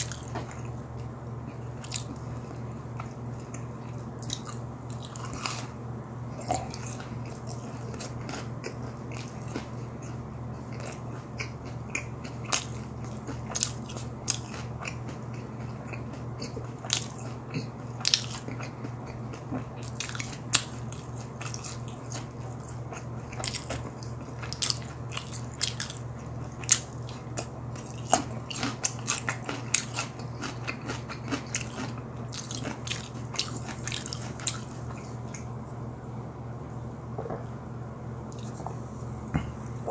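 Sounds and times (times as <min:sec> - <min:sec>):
crunchy chewing: 0:00.0 - 0:35.8.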